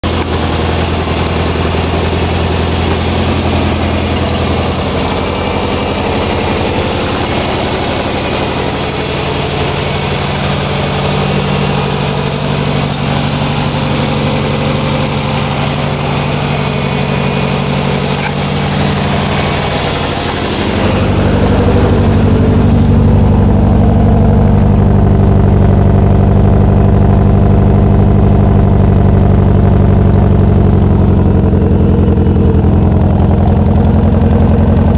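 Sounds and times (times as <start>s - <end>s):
car engine idling with misfire: 0.0s - 34.9s.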